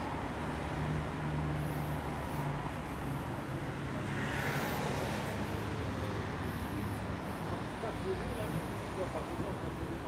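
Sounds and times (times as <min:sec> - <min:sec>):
street traffic noise: 0:00.0 - 0:10.0
vehicle passing: 0:00.7 - 0:08.9.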